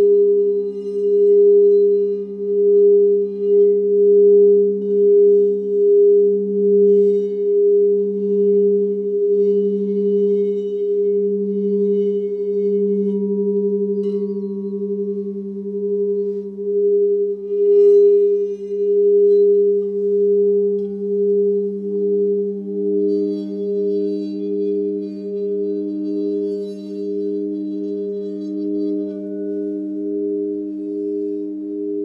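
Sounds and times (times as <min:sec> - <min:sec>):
bright pure tone: 0:00.0 - 0:32.0
faint high shimmering notes: 0:00.0 - 0:32.0.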